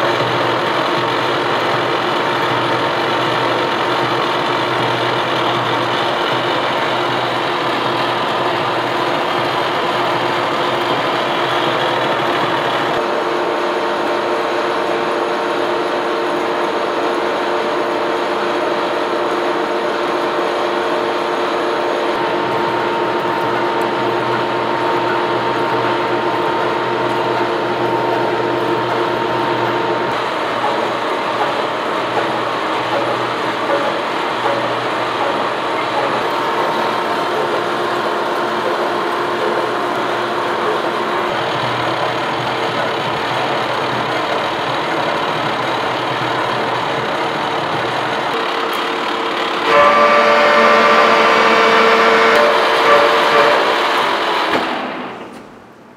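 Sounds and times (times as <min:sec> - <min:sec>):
face mill cutting steel: 0:00.0 - 0:55.3.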